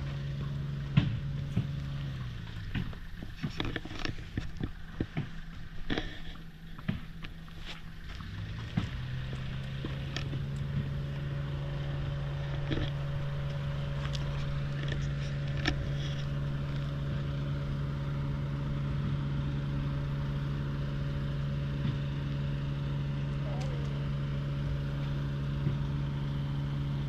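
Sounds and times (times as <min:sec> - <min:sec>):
low motor hum: 0:00.0 - 0:27.0.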